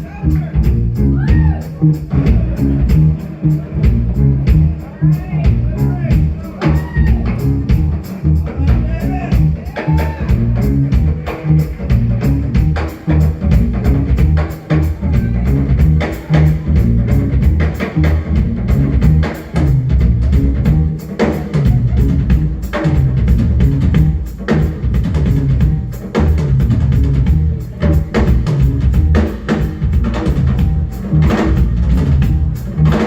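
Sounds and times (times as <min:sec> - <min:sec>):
drum kit groove: 0:00.0 - 0:33.0
electric bass: 0:00.0 - 0:33.0
guitar: 0:00.0 - 0:33.0.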